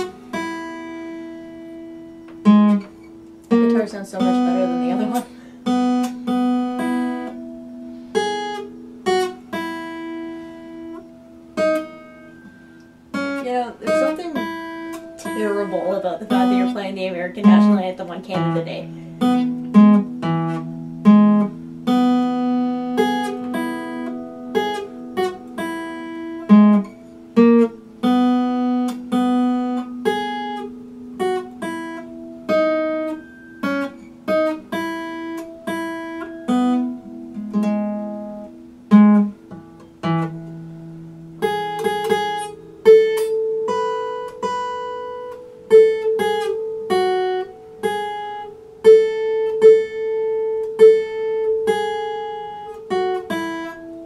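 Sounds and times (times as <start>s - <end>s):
acoustic guitar melody: 0.0s - 54.0s.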